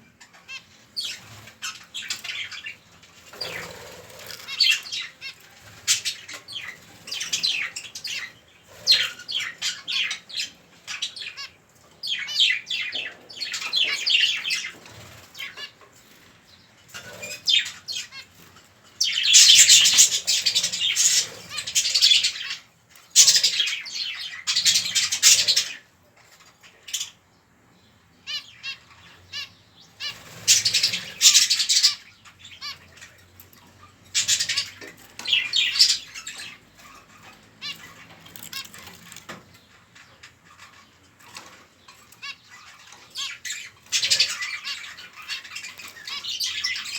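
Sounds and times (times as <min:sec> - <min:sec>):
chicks raspy chirping: 0:00.0 - 0:46.9.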